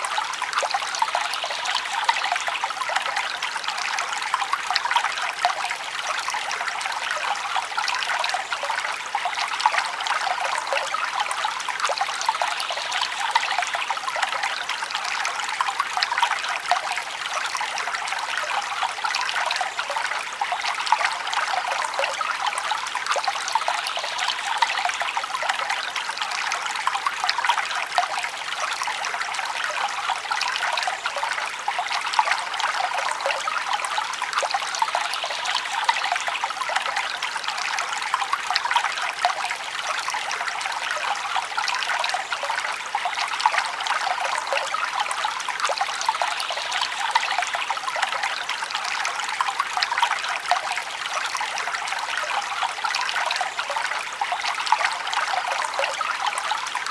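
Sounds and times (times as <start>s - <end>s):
stream babbling over stones: 0.0s - 56.9s.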